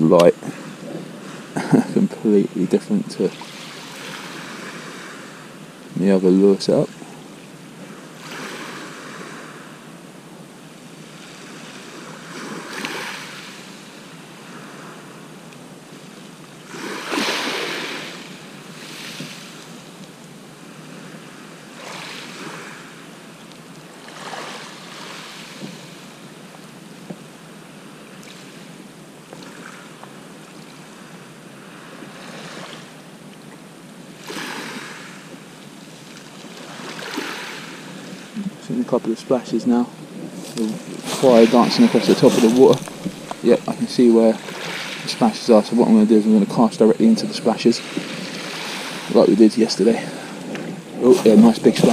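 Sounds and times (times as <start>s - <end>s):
waves washing up shingle beach: 0.0s - 33.1s, 33.7s - 51.9s.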